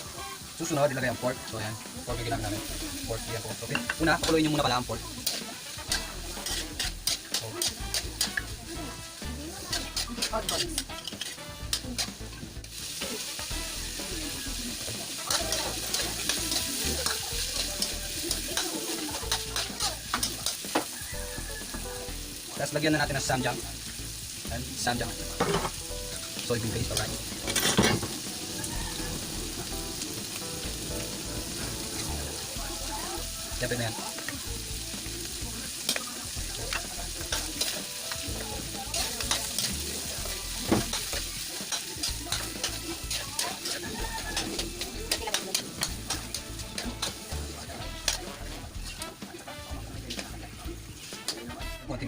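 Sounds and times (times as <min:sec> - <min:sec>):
food sizzling in oil: 0:00.0 - 0:52.0
utensil scraping a wok: 0:00.0 - 0:52.0.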